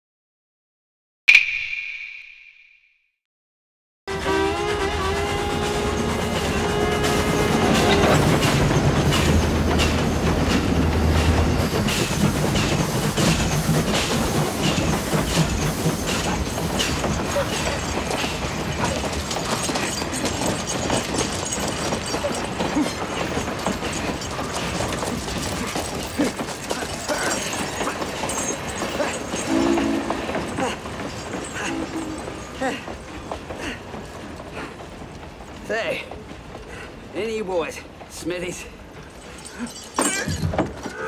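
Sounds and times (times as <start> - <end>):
train wheels clacking: 5.1 - 41.0.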